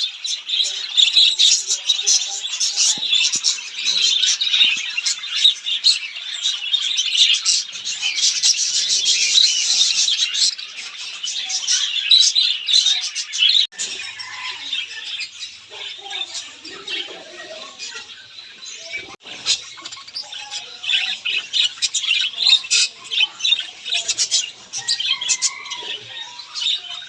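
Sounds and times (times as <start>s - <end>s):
small birds chirping and chattering: 0.0s - 27.0s.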